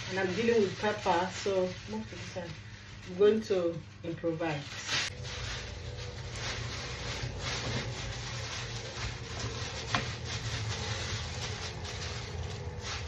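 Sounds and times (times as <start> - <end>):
rubbing and scraping fish: 0.0 - 13.0.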